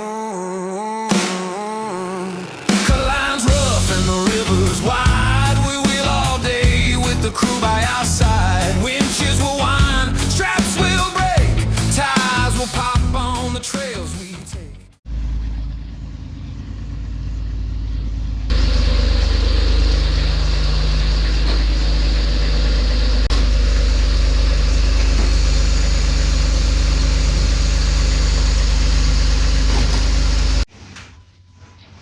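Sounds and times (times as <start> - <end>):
car engine idling: 1.9 - 13.6, 15.1 - 30.7.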